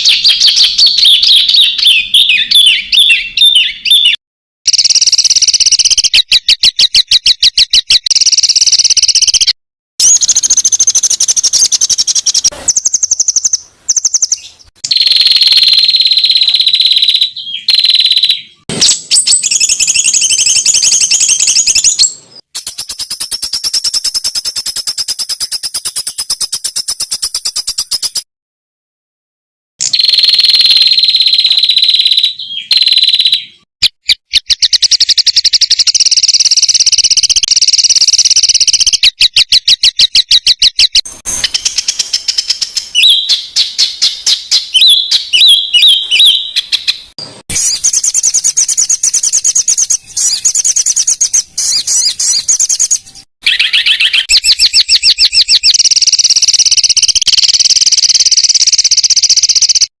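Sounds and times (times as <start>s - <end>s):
songbird trilling song: 0.0s - 28.2s, 29.8s - 59.9s.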